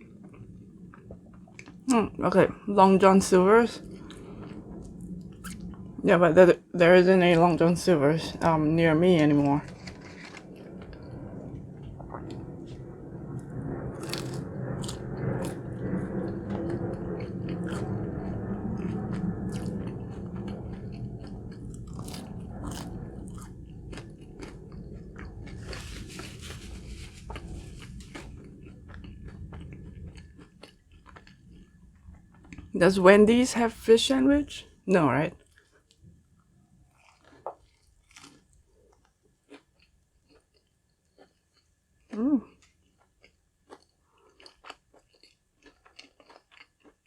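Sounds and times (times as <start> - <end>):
crunchy chewing: 0.0 - 1.9, 3.8 - 5.8, 9.6 - 32.7, 35.4 - 36.2, 36.8 - 47.0.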